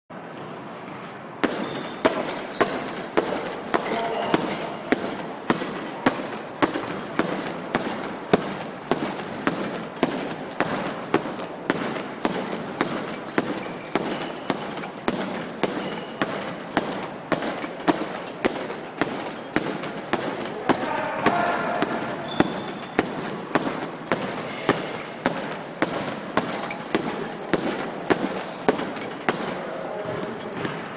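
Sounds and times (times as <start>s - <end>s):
kicks thudding on heavy bag: 1.4s - 30.9s.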